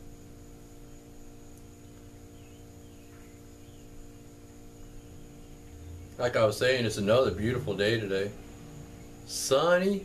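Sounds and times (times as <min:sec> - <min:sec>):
electrical mains hum: 0:00.0 - 0:10.0
faint chirps: 0:00.0 - 0:10.0
thin high whine: 0:00.0 - 0:10.0.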